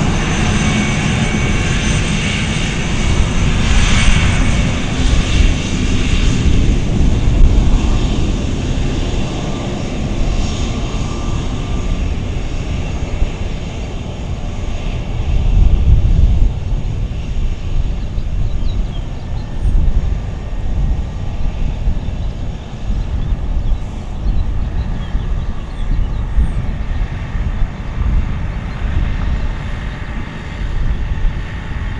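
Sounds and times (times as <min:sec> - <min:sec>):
aircraft engine rumble: 0:00.0 - 0:31.9.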